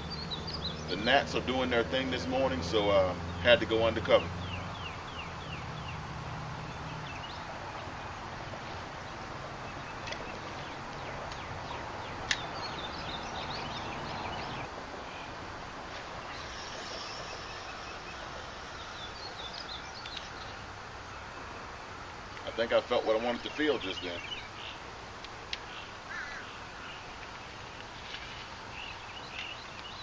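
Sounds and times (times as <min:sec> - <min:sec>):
birds chirping: 0:00.0 - 0:30.0
steady background hiss: 0:00.0 - 0:30.0.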